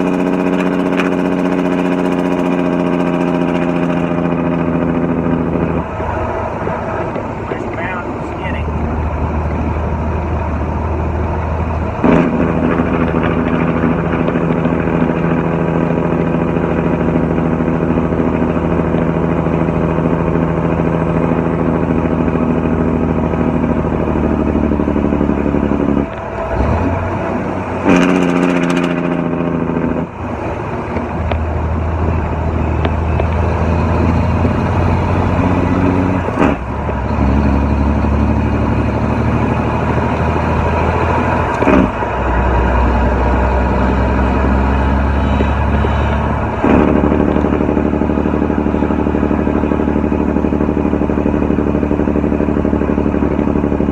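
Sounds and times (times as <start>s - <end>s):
diesel truck engine braking: 0.0s - 53.9s.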